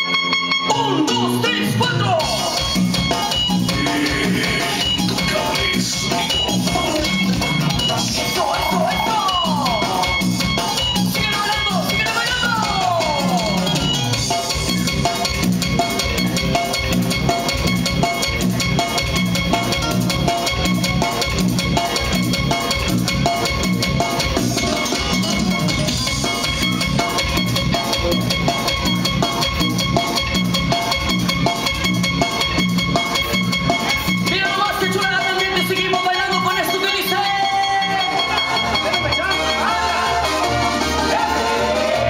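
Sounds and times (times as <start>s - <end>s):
loud dance music: 0.0s - 42.0s.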